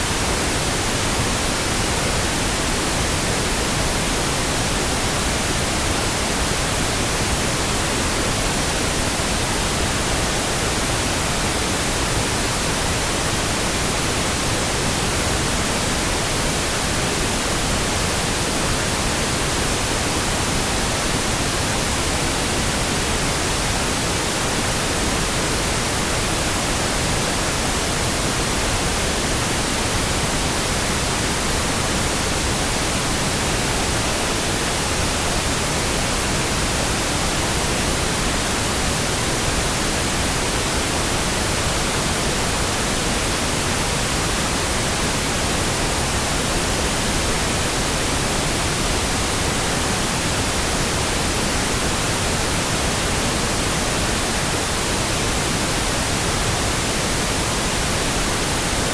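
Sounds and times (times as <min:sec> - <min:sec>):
pink noise hiss: 0:00.0 - 0:58.9.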